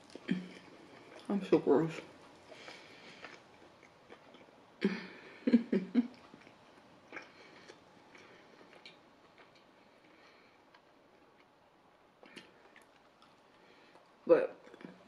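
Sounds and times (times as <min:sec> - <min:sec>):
soft chewing and mouth clicks: 0:00.0 - 0:15.0.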